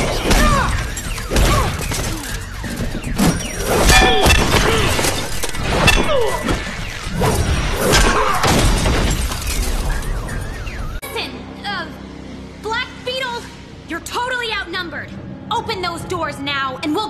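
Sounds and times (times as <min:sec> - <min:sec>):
dramatic music score: 0:00.0 - 0:17.0.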